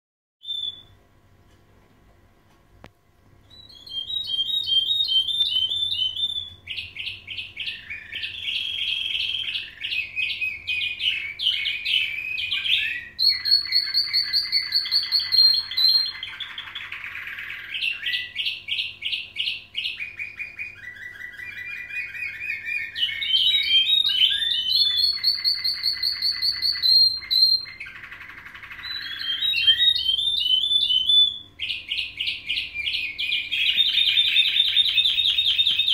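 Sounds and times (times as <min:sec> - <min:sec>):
canaries singing trills: 0:00.4 - 0:01.0, 0:03.4 - 0:35.9.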